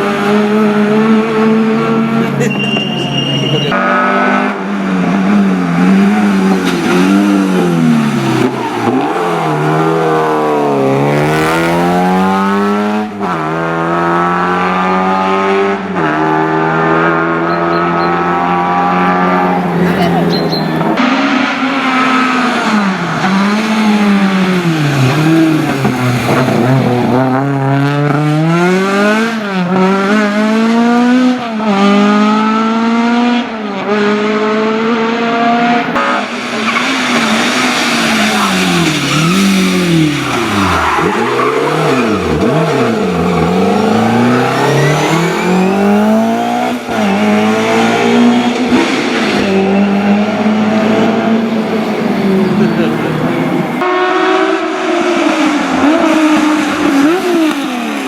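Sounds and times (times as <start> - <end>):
rally car engines at full throttle: 0.0 - 58.0.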